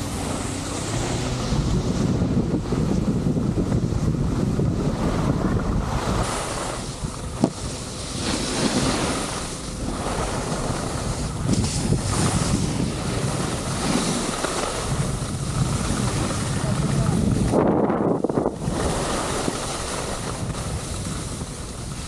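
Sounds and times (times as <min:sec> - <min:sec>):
skis scraping on snow: 0:00.0 - 0:22.0
wind buffeting microphone: 0:00.0 - 0:22.0.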